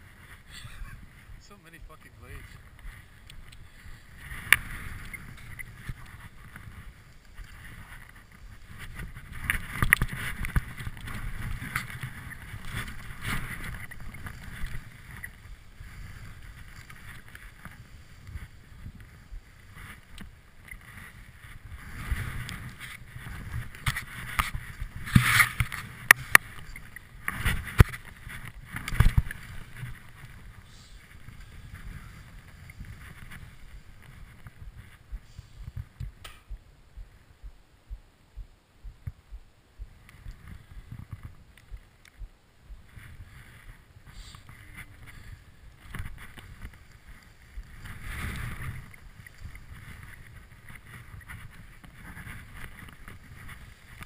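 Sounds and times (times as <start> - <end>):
skis swishing through powder snow: 0.0 - 35.9, 42.8 - 54.0.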